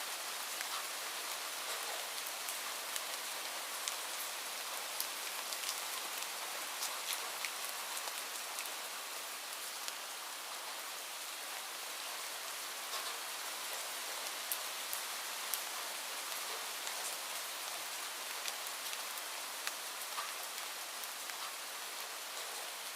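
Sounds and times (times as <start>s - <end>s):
steady rain hiss: 0.0s - 22.9s
raindrops ticking on a surface: 0.1s - 22.9s.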